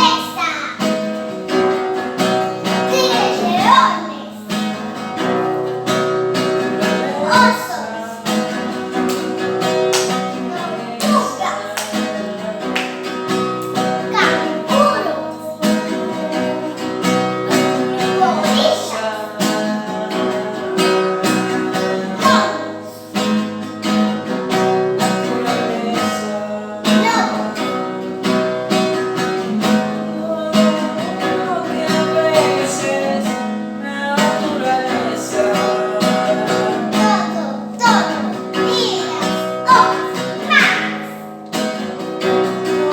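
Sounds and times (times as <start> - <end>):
acoustic guitar strummed and plucked: 0.0 - 42.9.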